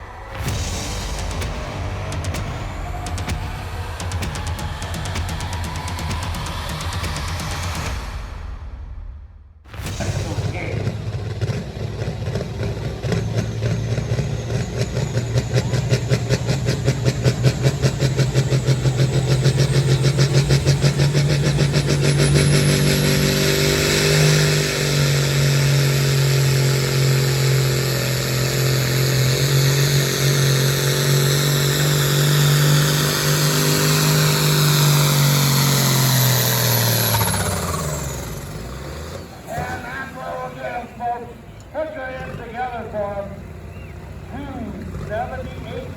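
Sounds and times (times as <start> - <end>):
tractor diesel engine under load: 0.0 - 8.8, 9.8 - 45.9
high whine: 0.0 - 38.7.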